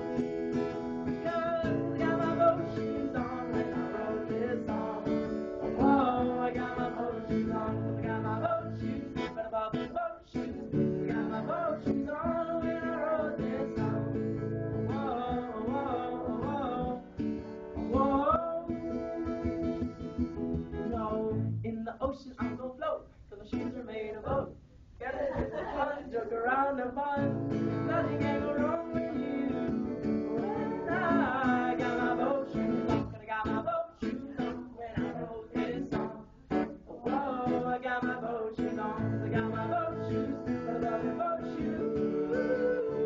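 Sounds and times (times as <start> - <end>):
strummed acoustic guitar: 0.0 - 21.7, 25.4 - 43.0.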